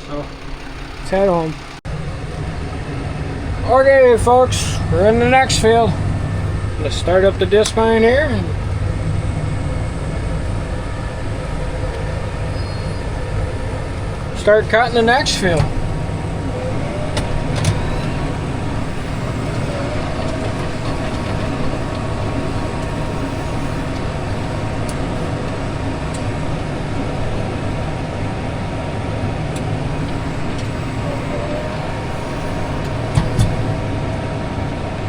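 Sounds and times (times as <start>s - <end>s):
mower continuous mechanical drone: 0.0s - 35.0s
tractor engine running: 0.0s - 35.0s.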